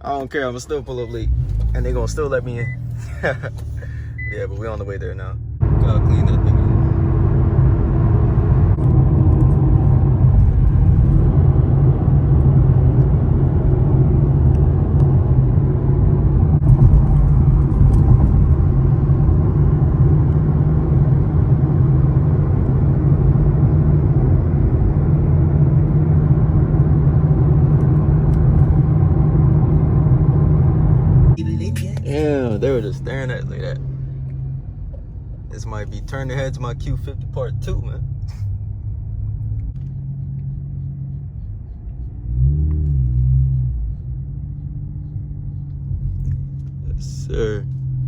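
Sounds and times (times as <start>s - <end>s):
car engine and exhaust rumble: 0.0s - 48.0s
road noise: 0.0s - 48.0s.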